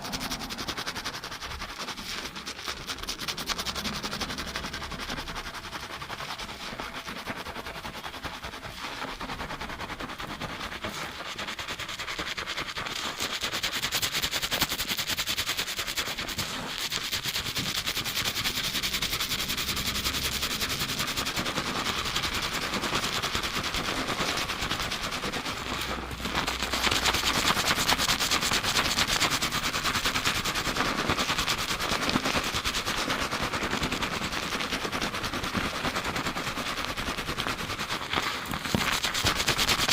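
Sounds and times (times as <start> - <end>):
fingertips scrubbing lathered hair: 0.0 - 39.9.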